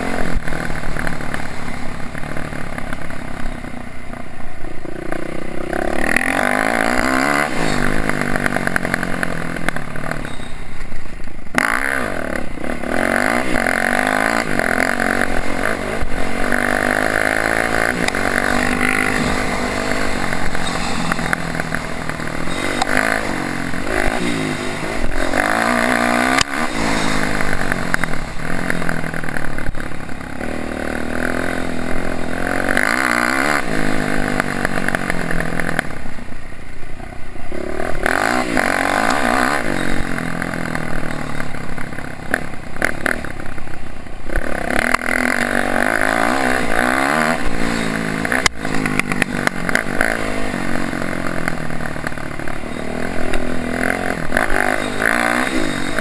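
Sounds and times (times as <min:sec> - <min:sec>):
dirt bike engine revving: 0:00.0 - 0:10.6, 0:11.5 - 0:36.3, 0:37.0 - 0:43.5, 0:44.3 - 0:56.0.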